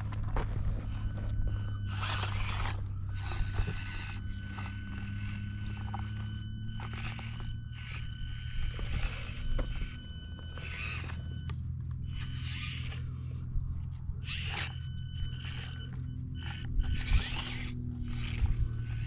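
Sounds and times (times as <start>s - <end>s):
small electric motors whining: 0.0s - 19.0s
tyres and chassis scraping on rock: 0.0s - 19.0s.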